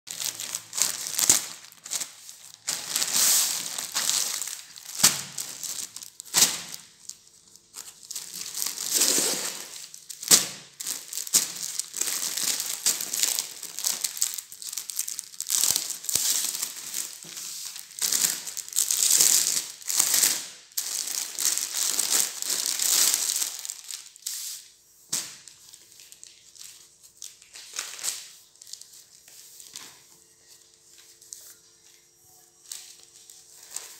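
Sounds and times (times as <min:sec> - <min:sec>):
plastic packaging crinkling: 0:00.1 - 0:24.4, 0:25.1 - 0:33.9.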